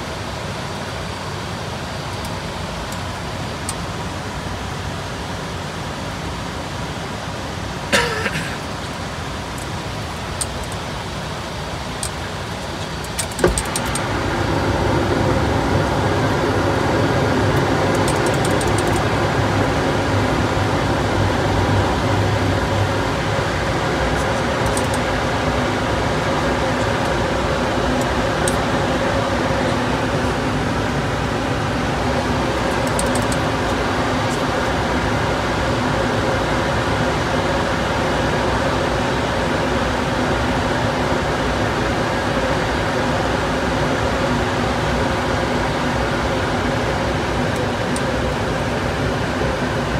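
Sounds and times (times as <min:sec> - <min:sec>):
aircraft cockpit air rush: 0:07.8 - 0:49.9.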